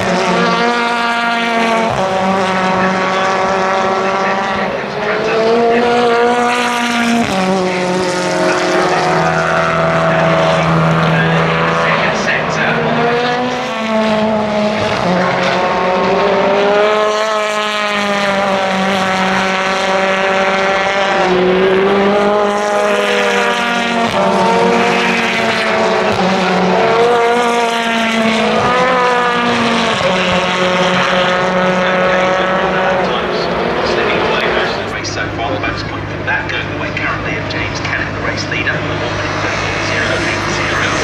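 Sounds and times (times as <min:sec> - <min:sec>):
racing car engines passing: 0:00.0 - 0:41.0.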